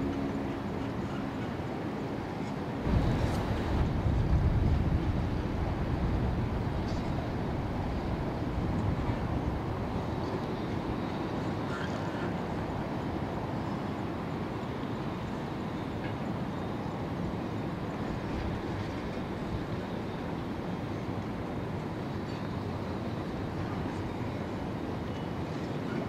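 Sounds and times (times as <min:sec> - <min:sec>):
ship engines droning: 0:00.0 - 0:26.0.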